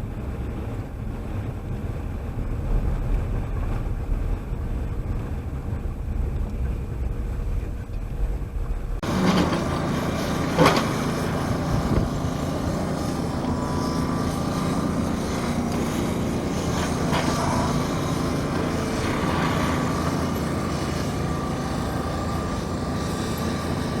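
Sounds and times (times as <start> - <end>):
engine running steadily: 0.0 - 24.0
wind buffeting microphone: 0.0 - 24.0.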